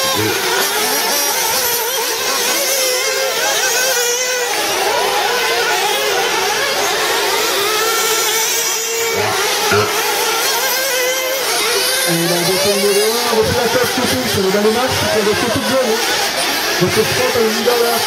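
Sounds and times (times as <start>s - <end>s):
rc buggy engines whining: 0.0s - 18.0s.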